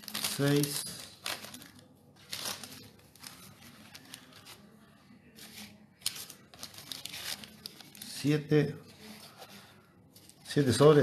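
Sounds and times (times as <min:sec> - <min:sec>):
paper packets rustling and crinkling: 0:00.0 - 0:11.0.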